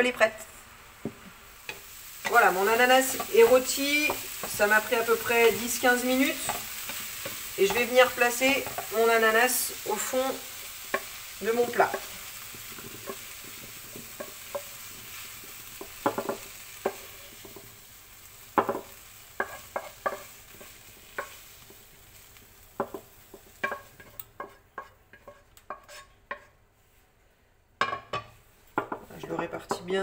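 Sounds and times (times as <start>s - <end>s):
fruit sizzling: 0.0s - 26.5s.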